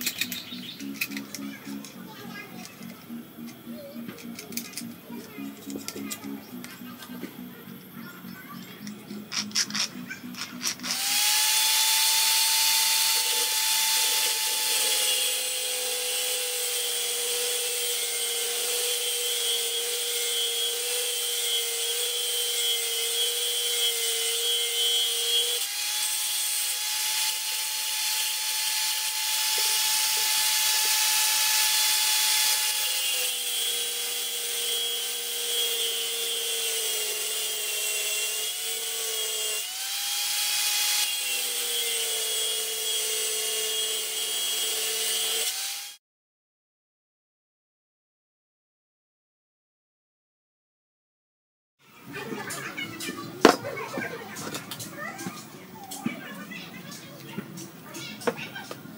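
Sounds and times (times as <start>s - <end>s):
angle grinder cutting steel rod: 0.0s - 46.0s, 53.4s - 55.5s.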